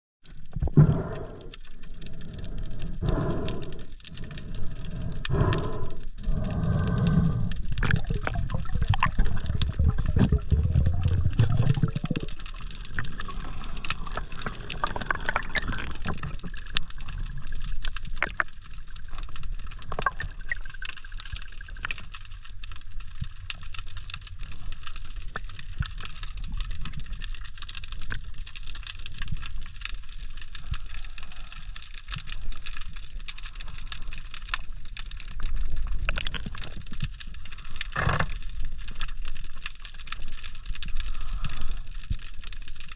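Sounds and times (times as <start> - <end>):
muffled underwater rumbling wash: 0.3 - 42.9.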